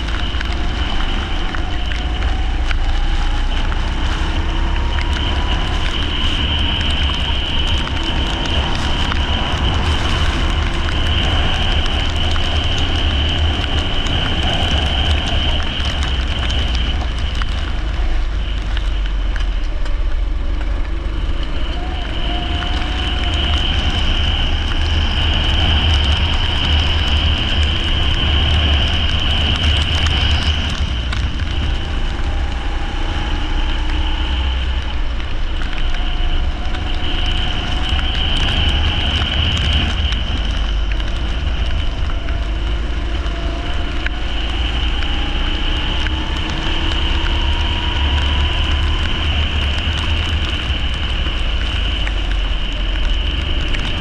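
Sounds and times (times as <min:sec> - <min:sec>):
go-kart engine racing: 0:00.0 - 0:54.0
heavy low rumble: 0:00.0 - 0:54.0.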